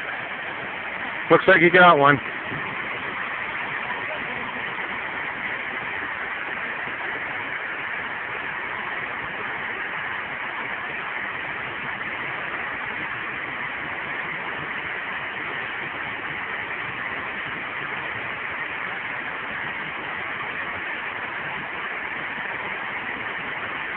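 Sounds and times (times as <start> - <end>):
river water rushing over rocks: 0.0 - 23.9.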